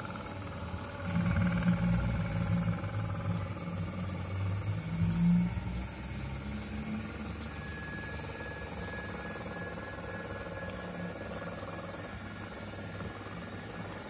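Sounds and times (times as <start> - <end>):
faint high whine: 0.0 - 14.0
model train motor and wheels hum: 0.0 - 14.0.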